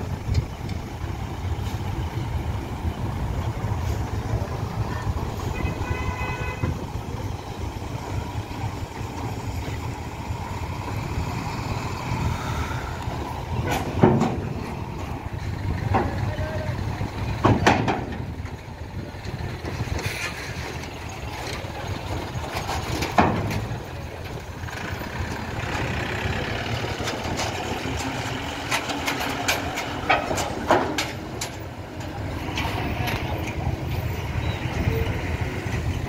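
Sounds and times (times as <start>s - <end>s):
vehicle engines rumbling at low revs: 0.0s - 36.0s.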